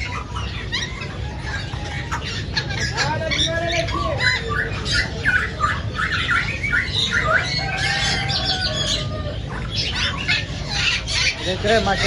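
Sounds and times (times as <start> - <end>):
parrots squawking and chirping: 0.0 - 12.0.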